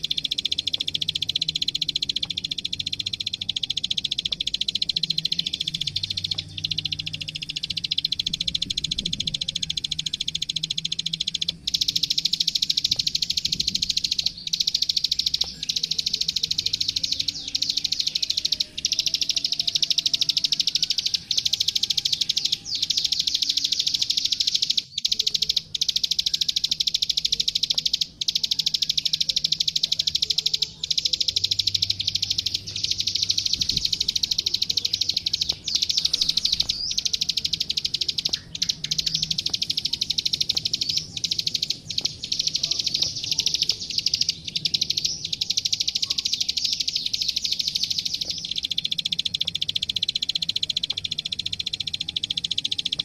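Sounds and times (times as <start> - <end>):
bird singing dry clicking notes: 0.0 - 53.0
faint low hum: 0.0 - 53.0.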